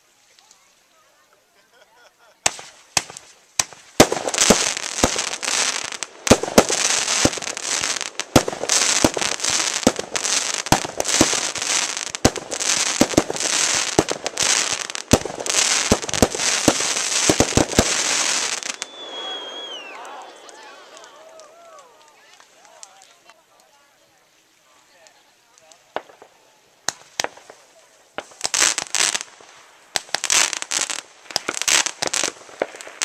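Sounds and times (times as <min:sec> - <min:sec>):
fireworks crackling hiss: 0:00.0 - 0:33.0
fireworks bangs: 0:02.4 - 0:23.0, 0:25.9 - 0:33.0.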